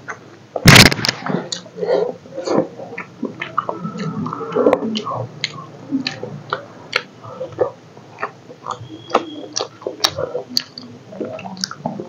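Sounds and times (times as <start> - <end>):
wet chewing with mouth clicks: 0.0 - 12.0.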